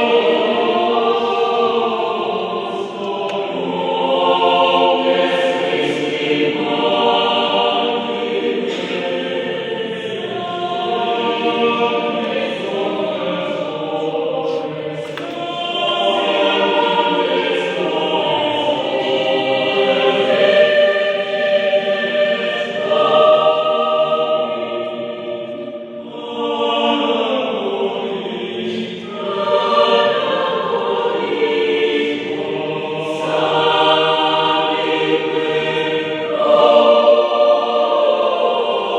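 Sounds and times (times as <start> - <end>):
mixed choir singing in harmony: 0.0 - 38.9.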